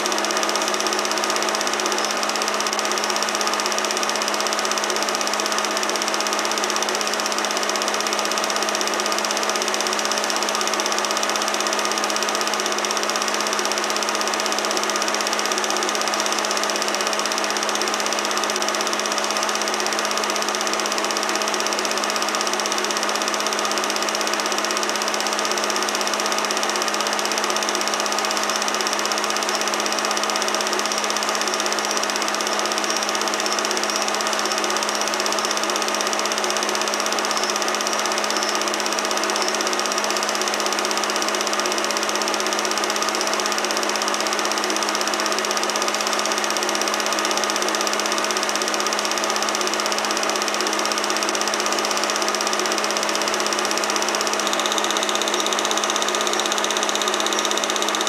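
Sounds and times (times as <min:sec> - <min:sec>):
film projector humming: 0:00.0 - 0:58.0.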